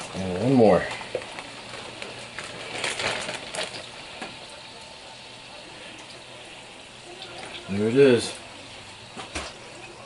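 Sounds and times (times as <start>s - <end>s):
fish frying in hot oil: 0.0s - 10.0s.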